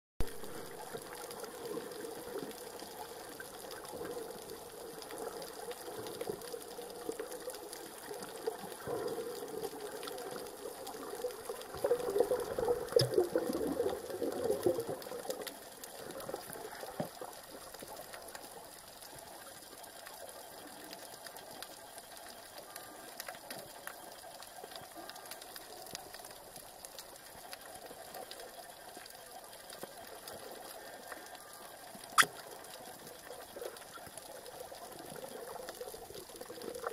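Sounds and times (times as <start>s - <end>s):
faint clicks: 0.2s - 36.9s.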